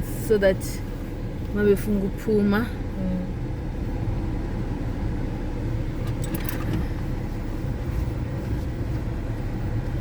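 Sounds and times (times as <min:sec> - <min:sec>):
car driving rumble inside cabin: 0:00.0 - 0:10.0.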